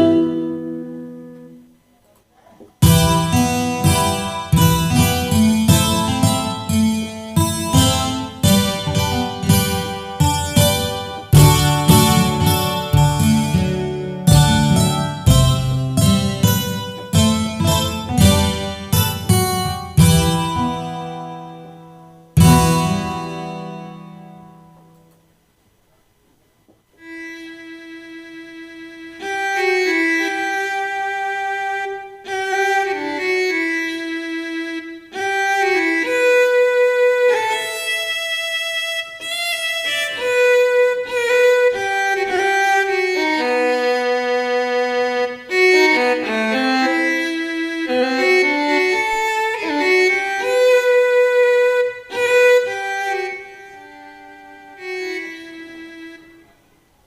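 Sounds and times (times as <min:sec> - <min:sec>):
keyboard violin melody: 0:00.0 - 0:01.6, 0:02.8 - 0:24.7, 0:27.0 - 0:56.6.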